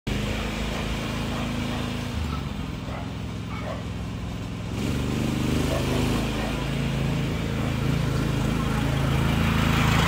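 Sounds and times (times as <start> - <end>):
small engine running: 0.1 - 10.0.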